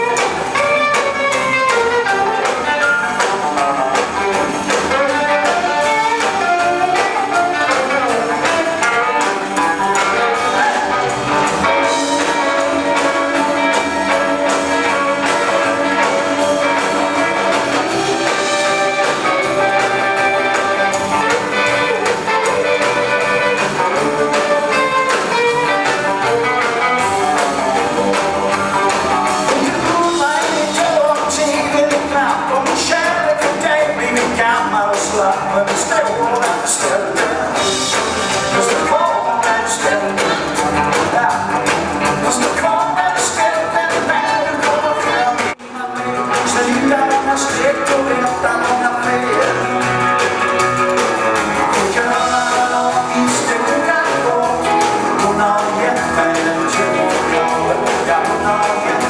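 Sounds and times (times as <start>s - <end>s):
drum beat: 0.0s - 59.0s
electric guitars: 0.0s - 59.0s
rock and roll band playing: 0.0s - 59.0s
upright double bass: 0.0s - 59.0s.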